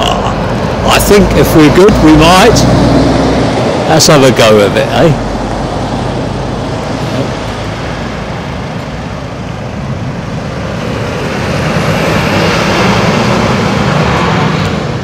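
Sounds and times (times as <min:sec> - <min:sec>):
lorry diesel engine: 0:00.0 - 0:15.0
tyre and road noise: 0:00.0 - 0:15.0.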